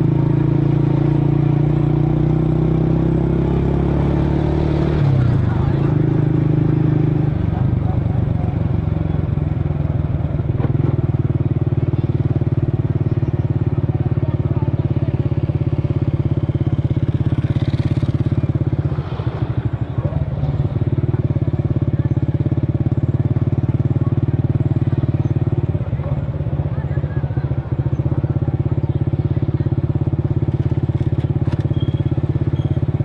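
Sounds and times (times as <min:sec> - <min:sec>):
scooter engine idling: 0:05.0 - 0:33.0.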